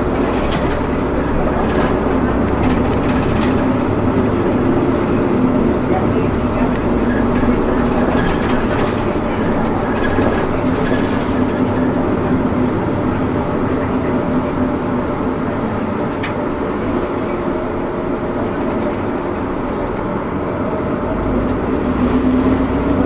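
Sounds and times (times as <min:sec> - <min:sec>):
bus engine running: 0:00.0 - 0:23.0
road and body noise: 0:00.0 - 0:23.0.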